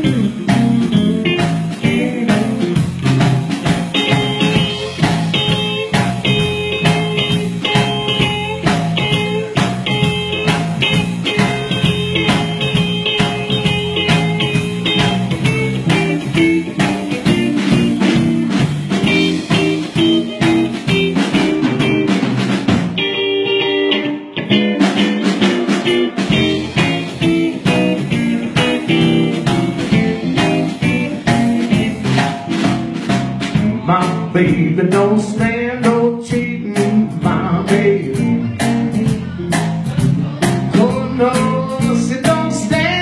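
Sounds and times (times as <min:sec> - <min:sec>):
bass and drums: 0:00.0 - 0:43.0
electric guitar: 0:00.0 - 0:43.0.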